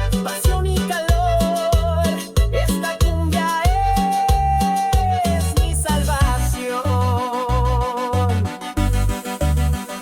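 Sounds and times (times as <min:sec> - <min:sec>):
instrumental cumbia music: 0:00.0 - 0:10.0.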